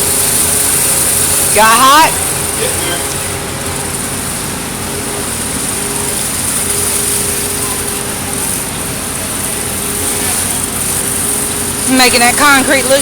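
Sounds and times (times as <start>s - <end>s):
high-pressure spray hissing on concrete: 0.0s - 13.0s
small engine drone: 0.0s - 13.0s.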